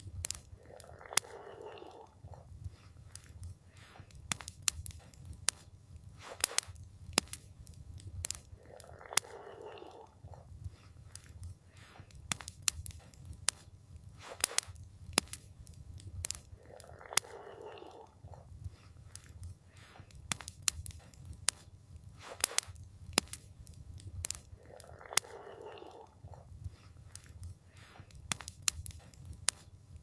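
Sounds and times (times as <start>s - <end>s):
campfire crackling and popping: 0.0s - 30.0s
low steady fire rumble: 0.0s - 30.0s.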